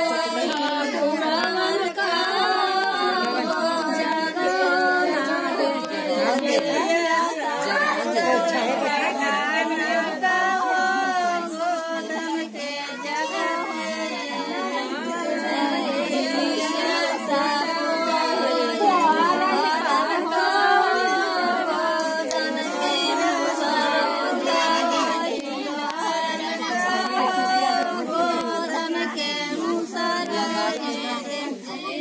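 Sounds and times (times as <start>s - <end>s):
women singing together: 0.0s - 32.0s.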